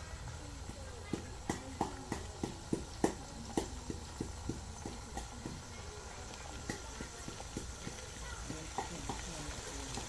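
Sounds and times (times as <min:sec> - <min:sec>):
rhythmic knocking: 0:00.6 - 0:05.8, 0:06.6 - 0:10.0.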